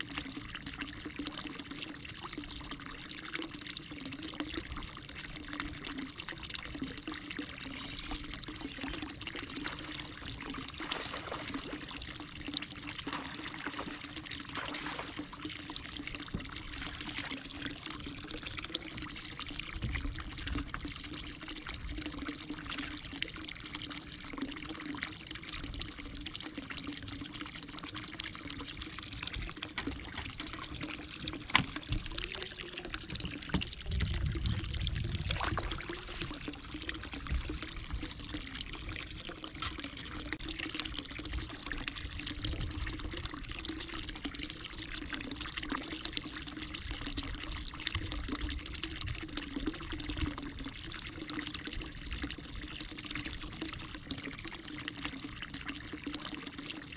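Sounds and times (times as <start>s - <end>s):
low steady hum: 0.0s - 54.6s
water pouring and trickling: 0.0s - 56.9s.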